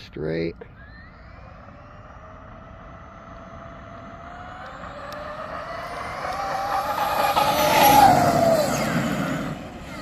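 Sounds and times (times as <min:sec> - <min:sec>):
rc truck electric motor whining: 0:00.7 - 0:10.0.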